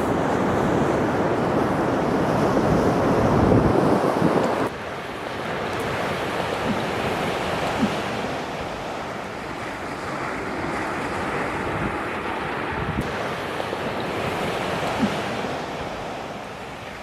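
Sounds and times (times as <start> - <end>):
sea waves washing onto shore: 0.0 - 17.0.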